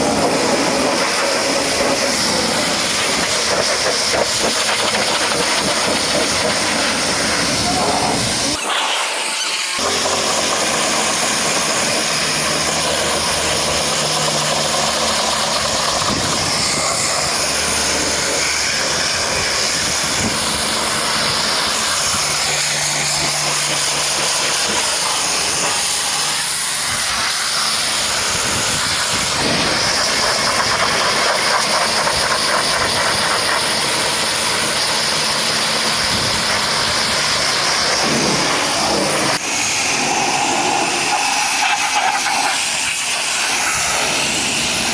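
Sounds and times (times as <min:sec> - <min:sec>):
high-pressure water jet spraying: 0:00.0 - 0:44.9.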